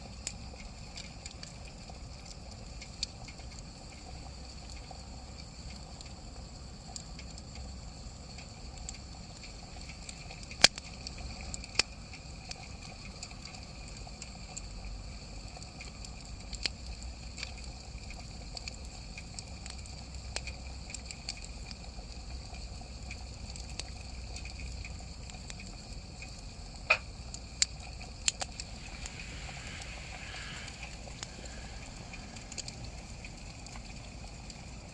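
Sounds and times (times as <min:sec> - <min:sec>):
campfire hissing: 0:00.0 - 0:34.9
fire crackles and pops: 0:00.0 - 0:34.9.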